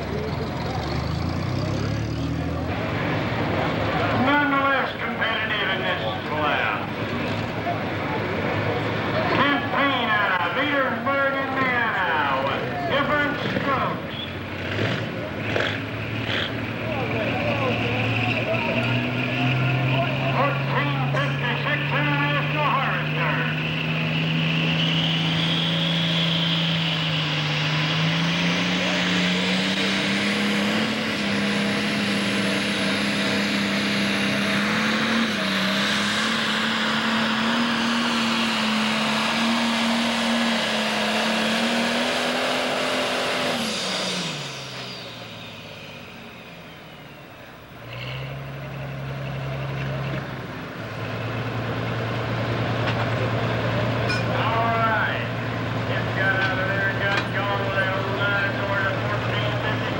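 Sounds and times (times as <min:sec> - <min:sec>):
diesel engine running flat out: 0:00.0 - 0:59.9
tractor engine running steadily: 0:00.0 - 0:59.9.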